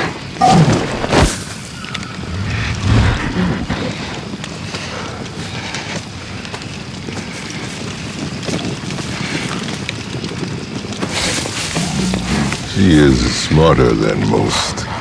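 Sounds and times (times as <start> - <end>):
wind-like rushing: 0.0 - 13.5
campfire crackling: 0.0 - 15.0.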